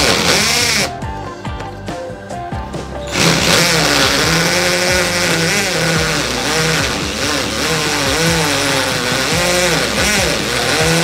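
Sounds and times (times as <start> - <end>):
impact drill boring into concrete: 0.0 - 1.0, 3.1 - 11.0.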